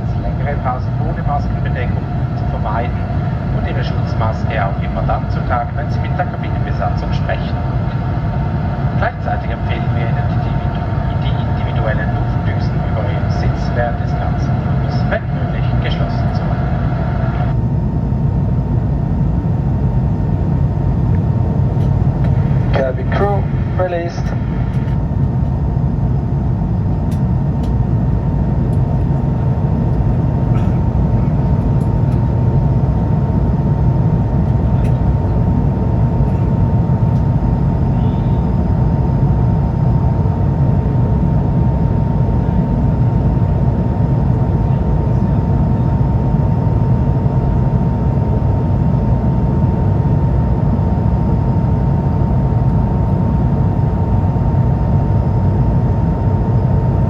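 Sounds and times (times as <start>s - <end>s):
airflow and engine rumble: 0.0s - 57.0s.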